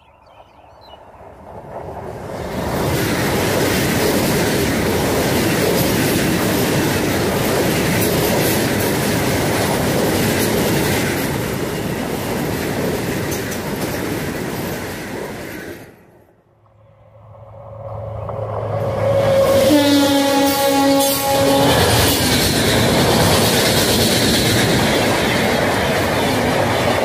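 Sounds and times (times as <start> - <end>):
train passing close by: 0.0 - 27.0.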